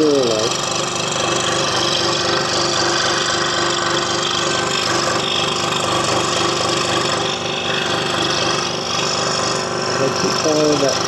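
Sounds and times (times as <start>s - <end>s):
scroll saw buzzing: 0.0s - 11.0s.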